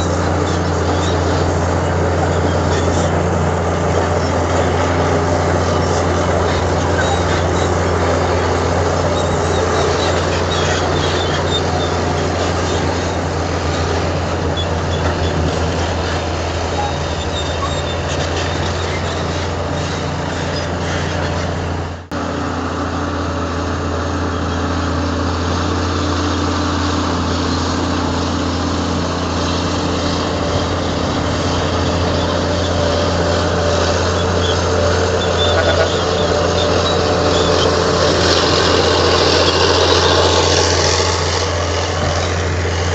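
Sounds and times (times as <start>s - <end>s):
heavy diesel engine running: 0.0s - 42.9s.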